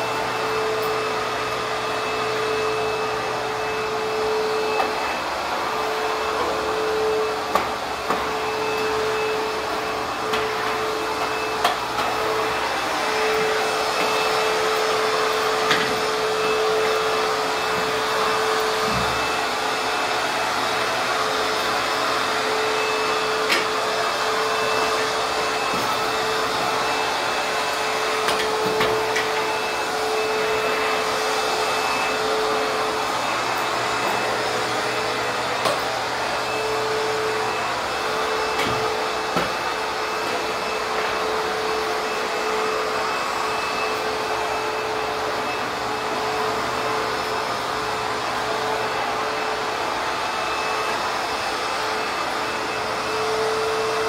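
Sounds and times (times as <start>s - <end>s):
vacuum cleaner running on carpet: 0.0s - 54.0s.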